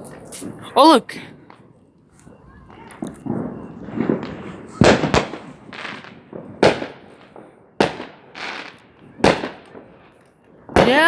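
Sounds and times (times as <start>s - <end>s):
fireworks exploding: 0.0s - 11.0s.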